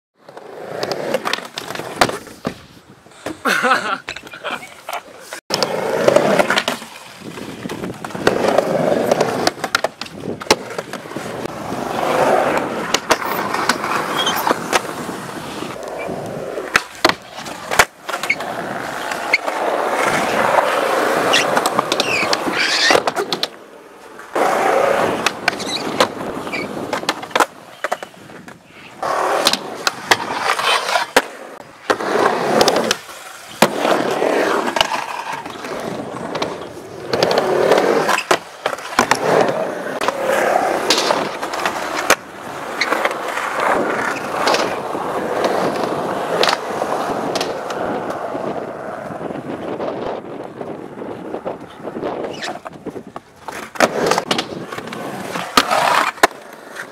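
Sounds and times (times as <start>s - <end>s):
skateboard popping and landing clacks: 0.2s - 56.9s
skateboard trucks scraping coping: 0.2s - 56.9s
skateboard wheels rolling on concrete: 0.2s - 56.9s.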